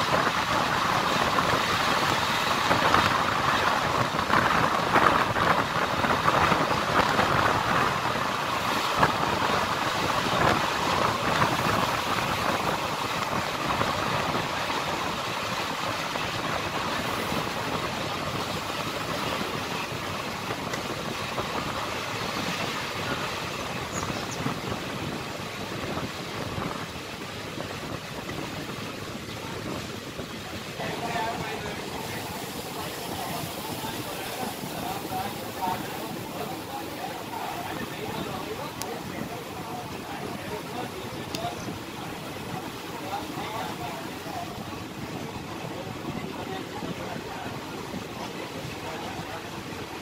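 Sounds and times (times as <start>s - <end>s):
rushing air: 0.0s - 48.2s.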